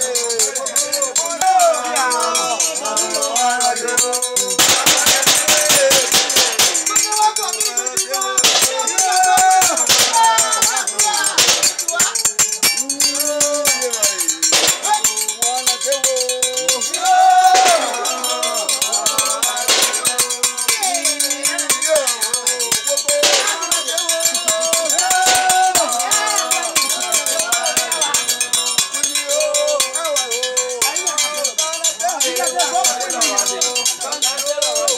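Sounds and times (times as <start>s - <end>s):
clanking metal percussion: 0.0s - 34.9s
voices singing together: 0.0s - 34.9s.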